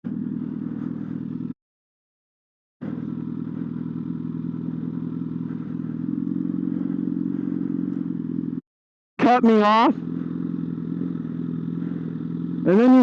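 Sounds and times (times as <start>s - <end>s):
motorcycle engine running: 0.0s - 1.6s, 2.8s - 13.0s.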